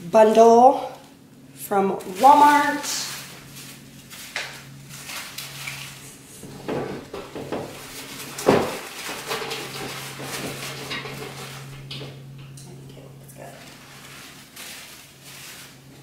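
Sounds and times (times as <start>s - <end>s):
flower stems rustling: 1.7s - 11.9s, 13.2s - 16.0s.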